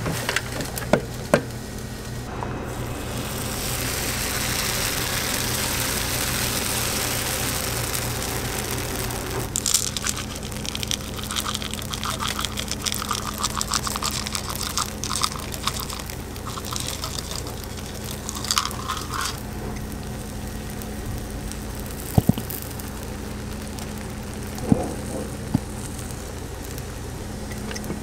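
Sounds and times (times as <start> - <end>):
steady low hum: 0.0 - 28.0
batter pouring: 2.7 - 27.1
chocolate chips pattering on iron: 3.2 - 28.0.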